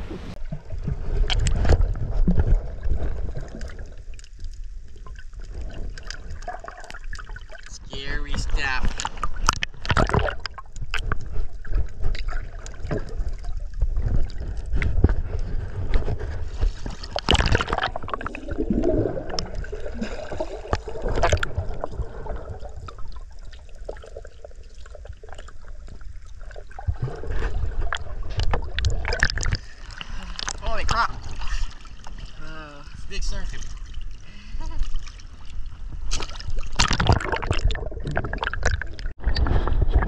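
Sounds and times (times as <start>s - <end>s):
water sloshing and gurgling: 0.0s - 40.0s
water splashing: 0.0s - 40.0s.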